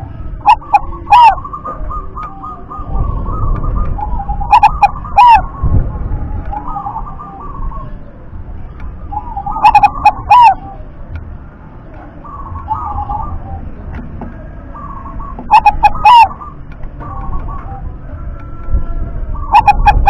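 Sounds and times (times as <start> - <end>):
dove cooing: 0.0 - 8.2, 9.0 - 10.9, 12.0 - 20.0.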